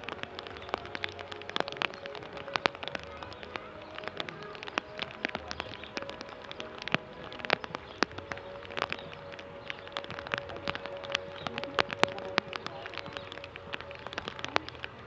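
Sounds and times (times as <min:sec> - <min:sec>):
faint steady tones: 0:00.0 - 0:15.0
rain drops ticking on surface: 0:00.0 - 0:15.0.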